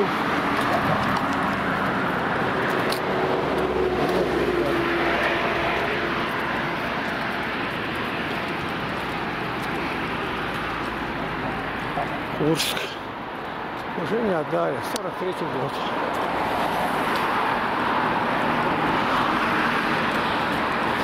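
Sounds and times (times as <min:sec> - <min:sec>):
passing vehicle hum: 0:00.0 - 0:21.0
road traffic rushing: 0:00.0 - 0:21.0.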